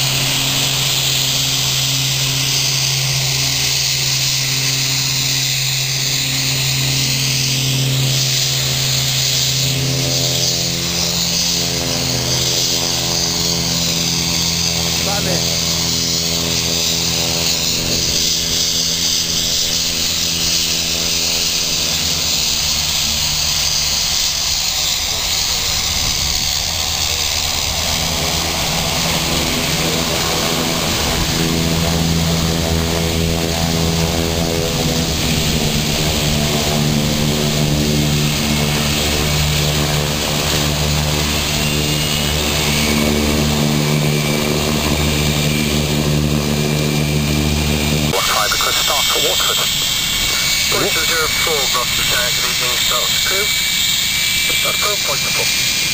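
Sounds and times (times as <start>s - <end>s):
aircraft engines humming: 0.0s - 55.9s.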